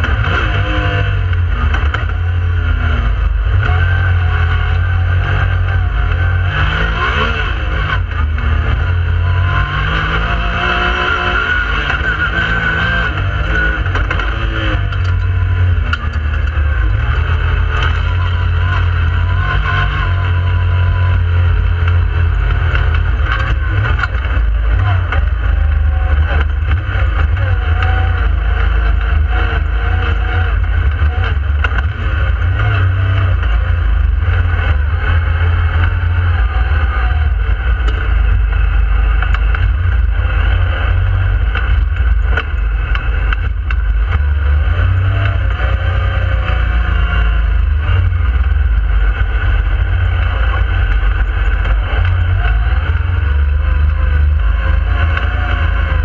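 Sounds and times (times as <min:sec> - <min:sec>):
engine deep rumble: 0:00.0 - 0:56.0.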